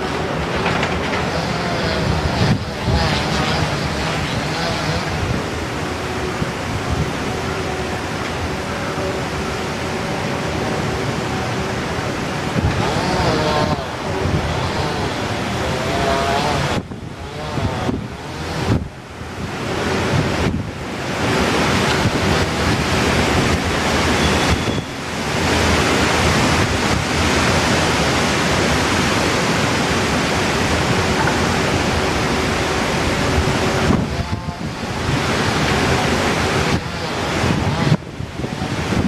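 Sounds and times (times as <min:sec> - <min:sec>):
strong wind buffeting microphone: 0:00.0 - 0:39.0.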